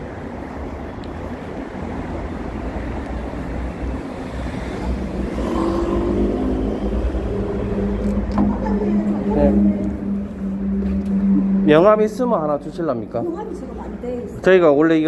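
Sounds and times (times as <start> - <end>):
low engine hum with overtones: 0.0 - 15.0
vehicle engine and road noise: 0.0 - 15.0.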